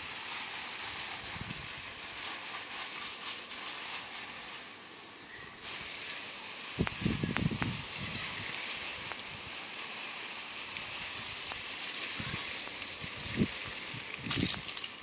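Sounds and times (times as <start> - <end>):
hose water spraying on leaves: 0.0 - 15.0.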